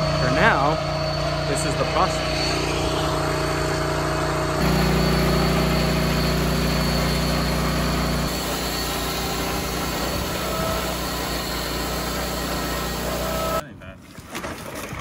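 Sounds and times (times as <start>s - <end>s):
sawmill cutting through log: 0.2s - 13.6s.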